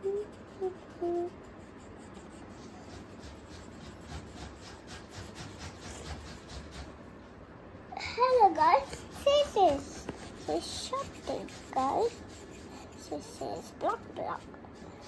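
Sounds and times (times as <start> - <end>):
pencil scribbling on paper: 0.0 - 7.0, 8.7 - 15.0.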